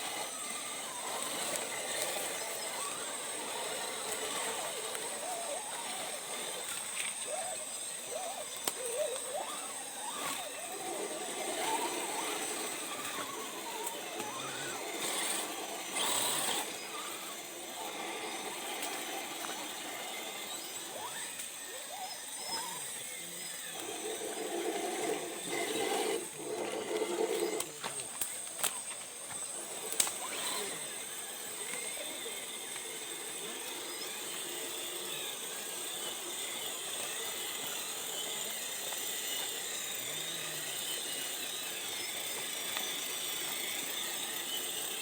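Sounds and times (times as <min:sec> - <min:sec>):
toy car motor and gears whining: 0:00.0 - 0:45.0.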